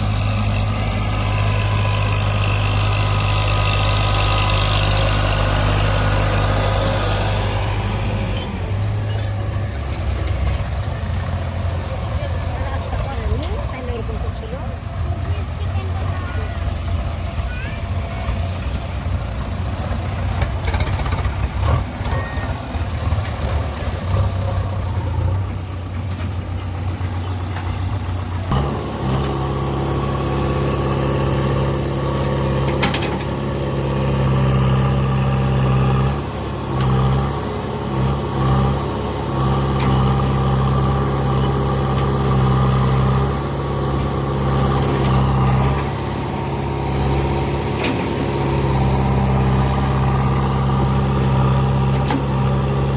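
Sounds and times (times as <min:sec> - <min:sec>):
heavy diesel engine revving: 0:00.0 - 0:52.9.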